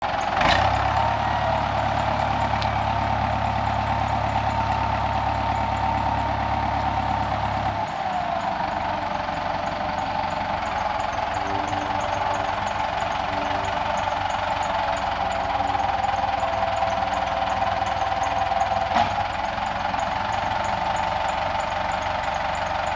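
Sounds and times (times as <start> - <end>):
engine running: 0.0 - 22.9.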